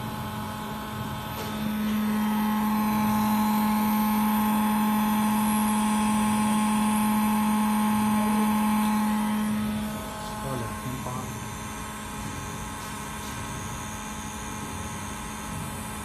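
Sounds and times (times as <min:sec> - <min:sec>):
induction heater electrical hum: 0:00.0 - 0:16.0.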